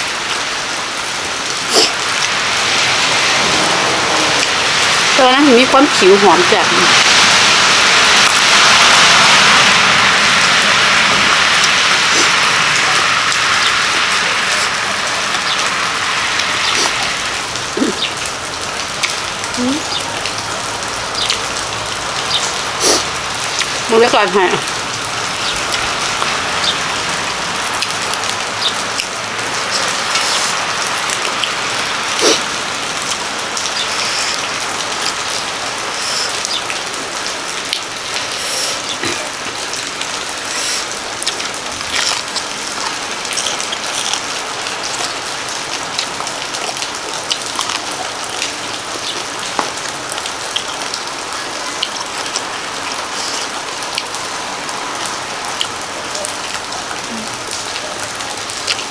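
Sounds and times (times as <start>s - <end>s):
sharp taps of rain: 0.0s - 58.9s
steady rain falling: 0.0s - 58.9s.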